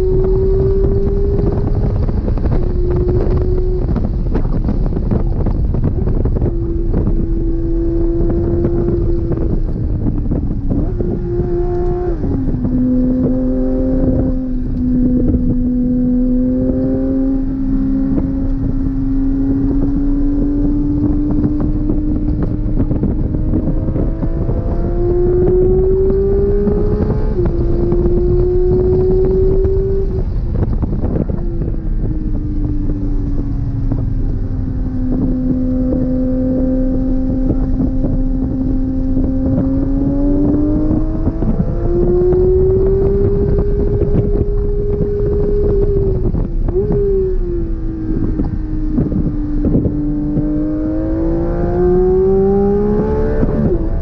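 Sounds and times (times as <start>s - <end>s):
car engine revving: 0.0s - 54.0s
wind and road noise: 0.0s - 54.0s.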